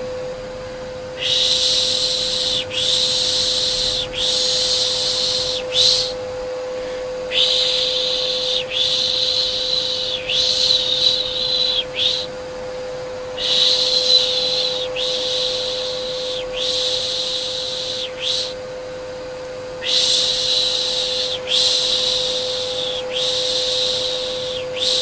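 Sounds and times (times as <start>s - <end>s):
vacuum cleaner hum: 0.0s - 25.0s
person shushing: 1.2s - 12.3s, 13.4s - 18.6s, 19.8s - 25.0s.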